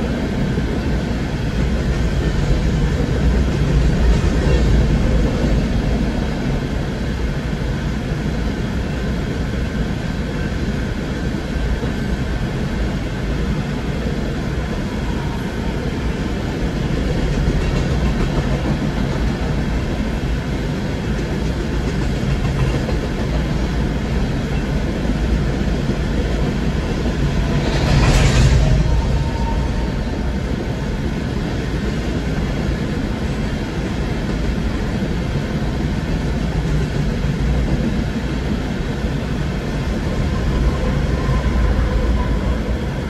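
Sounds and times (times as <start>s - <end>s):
steel wheels rumbling on rail: 0.0s - 43.0s.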